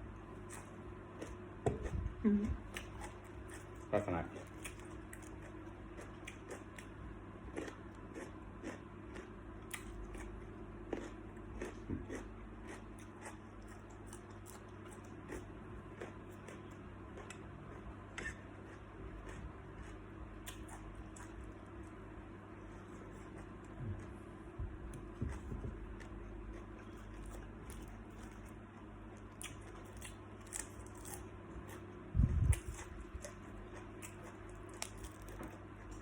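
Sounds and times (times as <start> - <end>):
crunching and chewing: 0.0 - 36.0
steady low hum: 0.0 - 36.0.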